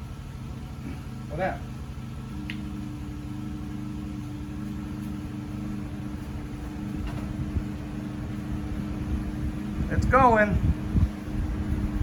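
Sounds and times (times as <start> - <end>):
electric fan humming: 0.0 - 12.0
generator engine running: 0.0 - 12.0.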